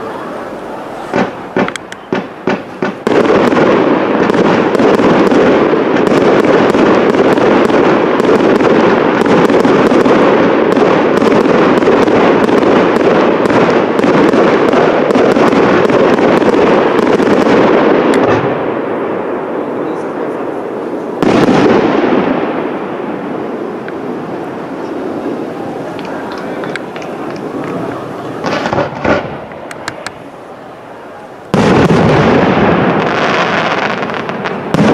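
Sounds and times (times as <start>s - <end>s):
fireworks bangs: 0.0s - 34.9s
rattle of small fireworks reports: 0.0s - 34.9s.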